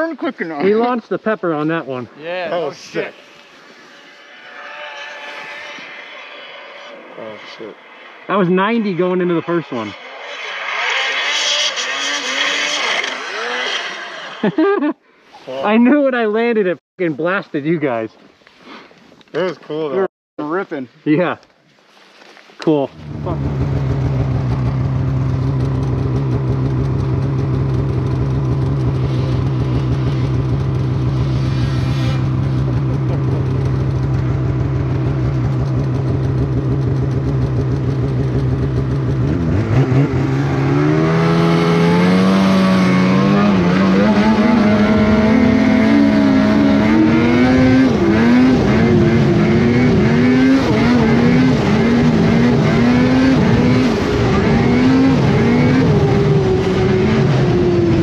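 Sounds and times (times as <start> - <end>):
snowmobile engine revving: 0.0 - 17.8, 23.0 - 58.0.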